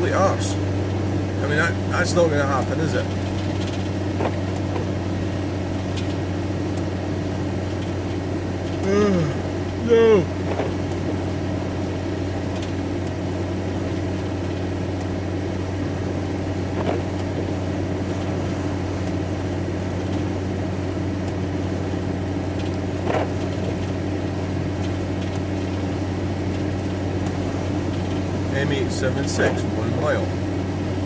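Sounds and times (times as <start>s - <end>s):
engine hum and road noise: 0.0s - 31.0s.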